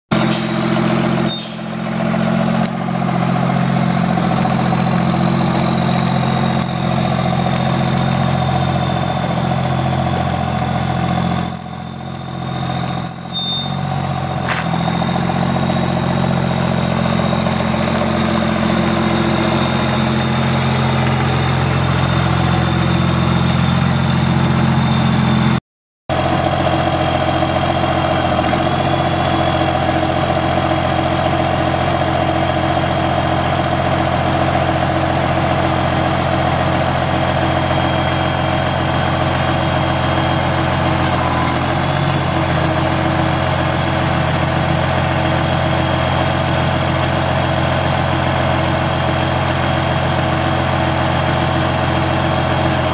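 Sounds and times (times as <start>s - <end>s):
diesel engine idling: 0.1s - 52.9s.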